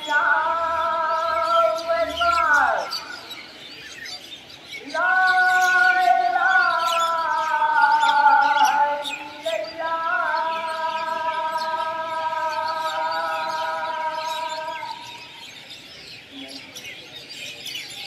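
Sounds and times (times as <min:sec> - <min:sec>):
man singing call to prayer: 0:00.0 - 0:15.8
birds chirping: 0:00.0 - 0:18.0.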